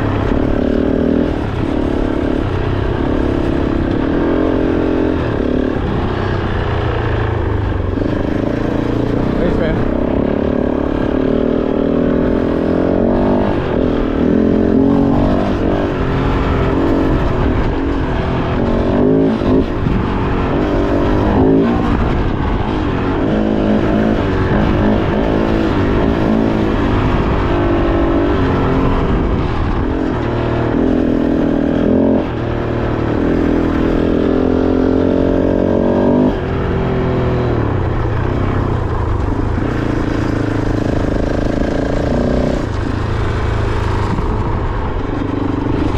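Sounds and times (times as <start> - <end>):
motorcycle engine revving under load: 0.0 - 45.9.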